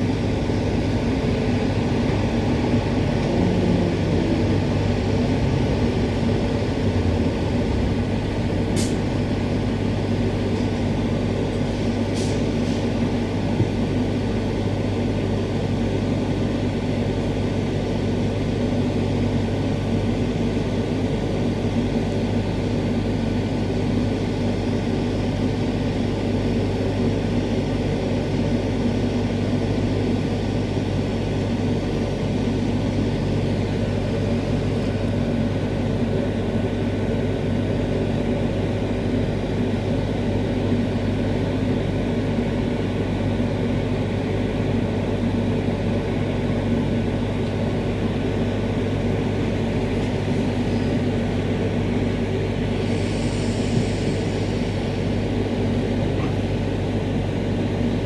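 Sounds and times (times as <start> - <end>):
train wheels on rail drone: 0.0 - 58.0.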